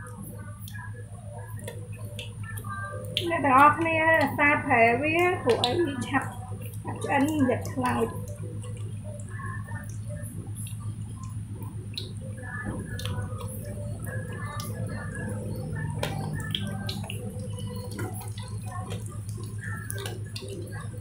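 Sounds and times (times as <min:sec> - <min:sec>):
low hum: 0:00.0 - 0:21.0
oil sizzling with crackling pops: 0:00.0 - 0:21.0.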